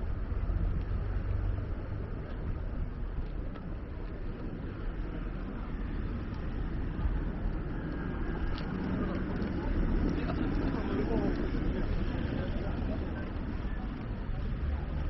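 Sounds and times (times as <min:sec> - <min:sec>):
city ambience low rumble: 0:00.0 - 0:15.0.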